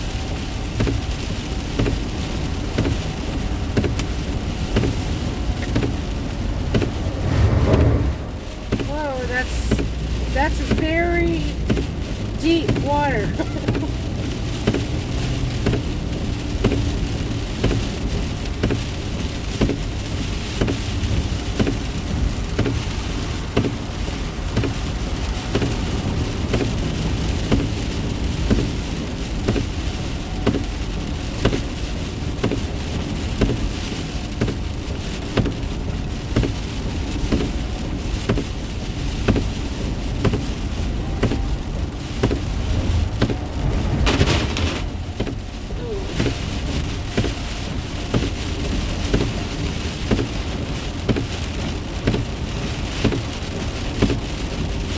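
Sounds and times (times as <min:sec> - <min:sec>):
car rumbling on wet road: 0:00.0 - 0:54.9
heavy rain on car windshield: 0:00.0 - 0:54.9.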